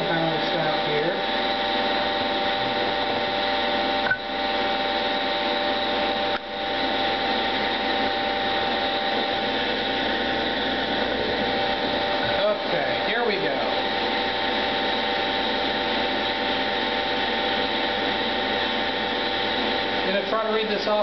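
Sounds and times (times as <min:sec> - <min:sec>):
testing machine motor drone: 0:00.0 - 0:21.0.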